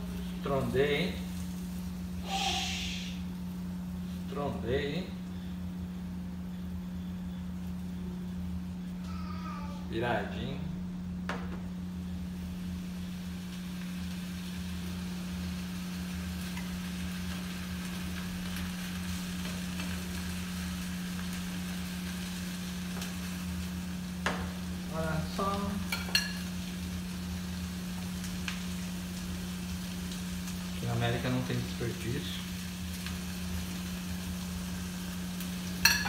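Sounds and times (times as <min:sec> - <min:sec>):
egg sizzling in a pan: 0:00.0 - 0:10.2, 0:11.1 - 0:36.0.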